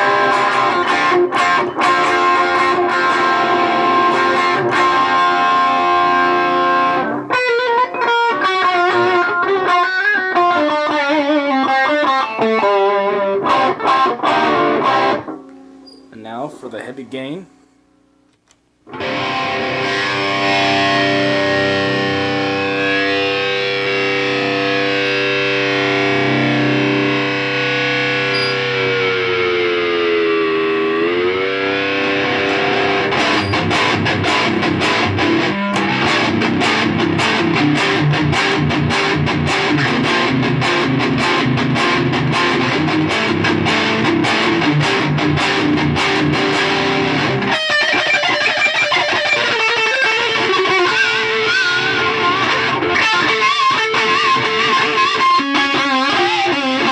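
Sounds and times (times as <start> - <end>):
distorted electric guitar: 0.0 - 16.8, 18.8 - 56.9.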